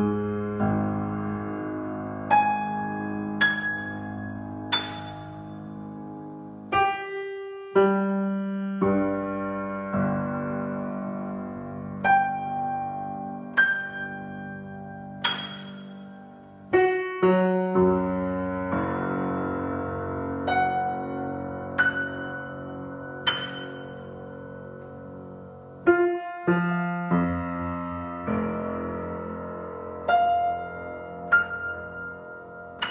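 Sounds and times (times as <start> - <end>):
piano notes and chords: 0.0 - 32.9.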